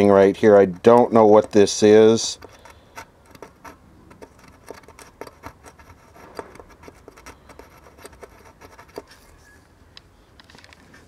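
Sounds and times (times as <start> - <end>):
metal probe scratching and tapping: 0.0 - 9.2.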